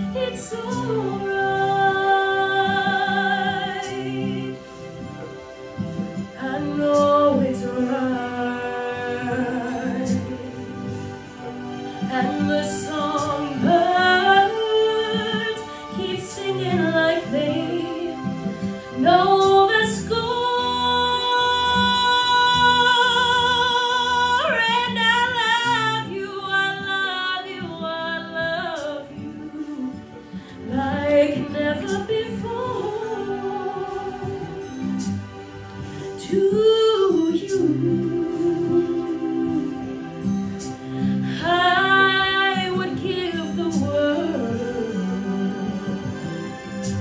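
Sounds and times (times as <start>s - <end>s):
girl singing a slow ballad: 0.0s - 47.0s
instrumental accompaniment: 0.0s - 47.0s.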